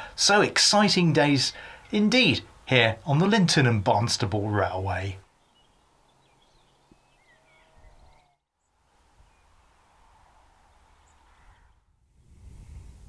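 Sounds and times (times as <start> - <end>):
faint birdsong: 0.9 - 12.0.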